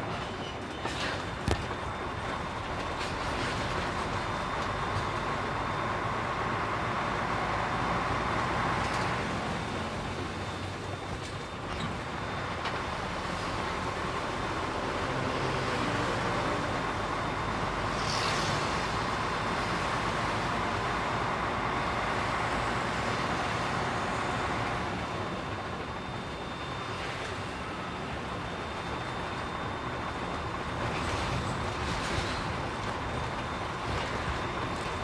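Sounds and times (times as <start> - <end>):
truck engine and road noise: 0.0 - 35.0.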